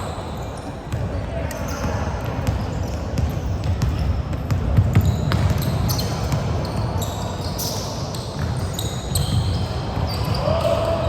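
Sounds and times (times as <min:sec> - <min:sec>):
sneaker squeaks: 0:00.0 - 0:11.0.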